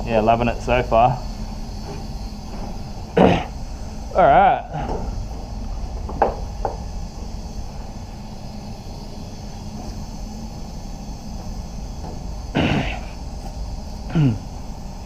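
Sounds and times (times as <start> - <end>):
ventilation rumble: 0.0 - 15.0.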